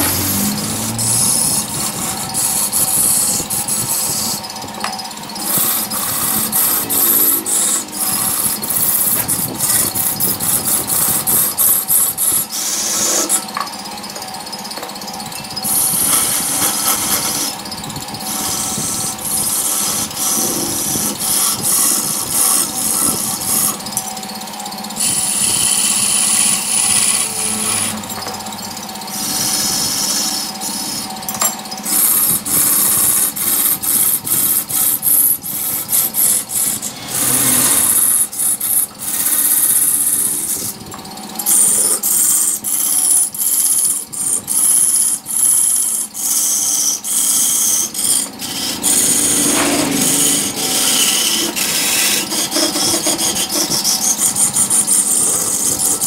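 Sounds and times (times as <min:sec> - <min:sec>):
lathe motor hum: 0:00.0 - 0:56.0
lathe tool scraping wood: 0:00.0 - 0:56.0.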